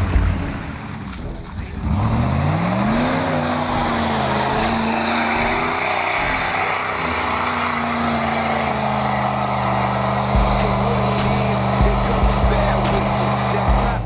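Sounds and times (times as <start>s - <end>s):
engine revving at high revs: 1.8s - 14.0s.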